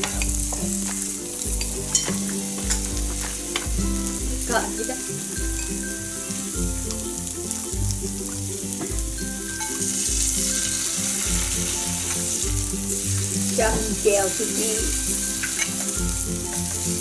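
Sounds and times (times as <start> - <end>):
meat sizzling on a grill pan: 0.0 - 17.0
music with a low beat: 0.0 - 17.0.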